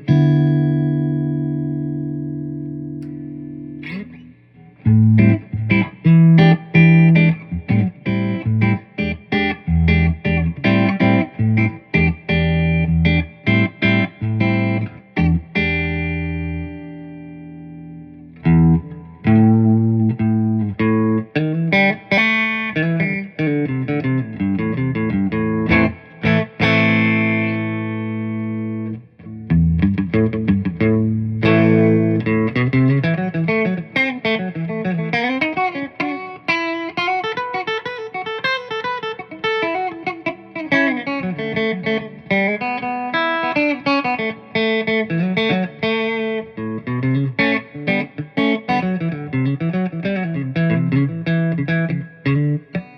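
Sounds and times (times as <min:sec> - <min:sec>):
clean electric guitar playing: 0:00.0 - 0:52.9.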